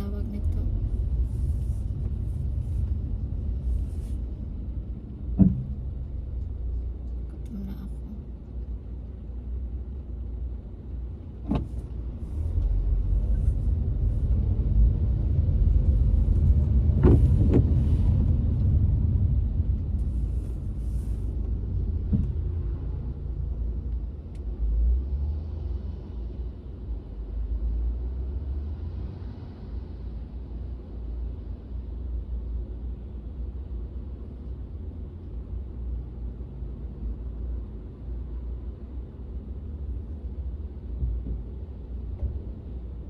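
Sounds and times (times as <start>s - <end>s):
road rumble inside car: 0.0s - 43.0s.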